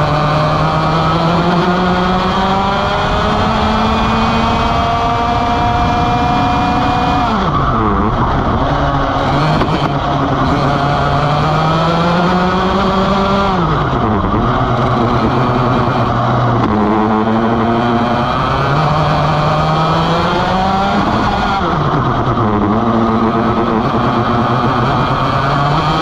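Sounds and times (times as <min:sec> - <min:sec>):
kart engine revving: 0:00.0 - 0:26.0.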